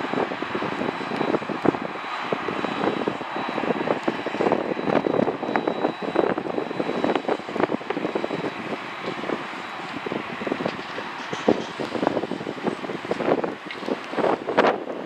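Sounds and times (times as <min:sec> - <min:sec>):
high jet whine: 0:00.0 - 0:15.0
jet engines rumbling hiss: 0:00.0 - 0:15.0.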